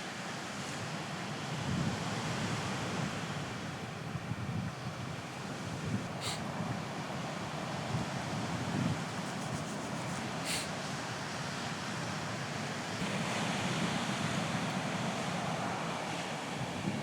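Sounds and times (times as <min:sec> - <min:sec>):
sea waves washing onto shore: 0:00.0 - 0:17.0
steady wind: 0:00.0 - 0:17.0.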